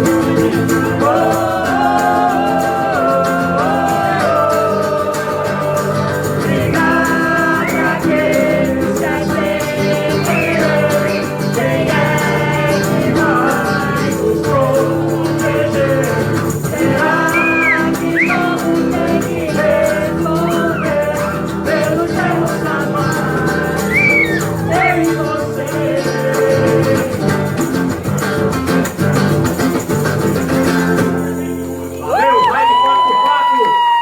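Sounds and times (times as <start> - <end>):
song with sung melody: 0.0 - 32.9.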